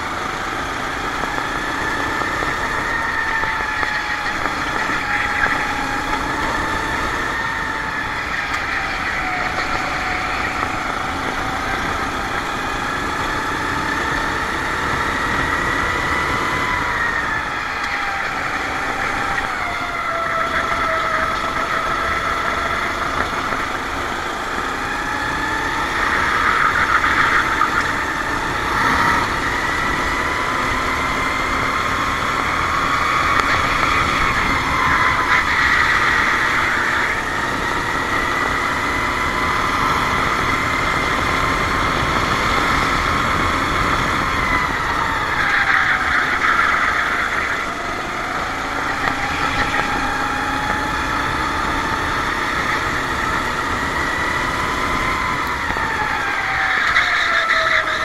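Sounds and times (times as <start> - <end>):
kart engine racing: 0.0 - 58.0.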